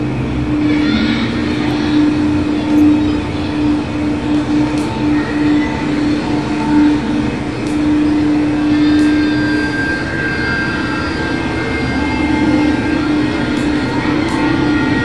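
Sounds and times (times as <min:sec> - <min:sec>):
mechanical rumble and hiss: 0:00.0 - 0:15.0
sustained whining tones: 0:00.0 - 0:15.0.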